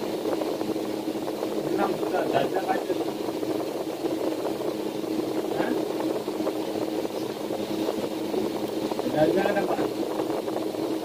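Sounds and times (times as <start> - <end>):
air cooler fan whir: 0.0 - 11.0.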